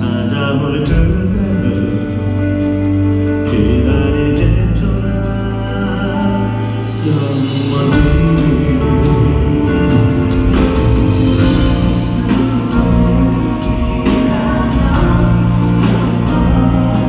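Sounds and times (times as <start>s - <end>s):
held bass notes: 0.0s - 17.0s
live pop band music: 0.0s - 17.0s.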